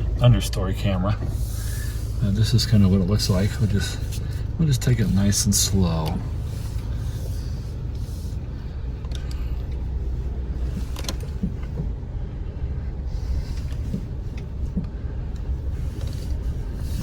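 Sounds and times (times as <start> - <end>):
pickup engine rumble: 0.0 - 17.0.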